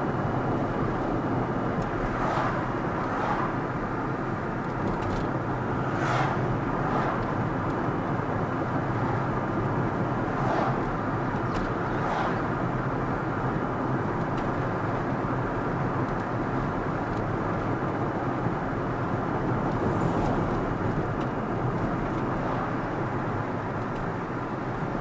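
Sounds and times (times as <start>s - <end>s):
car road noise: 0.0s - 25.0s.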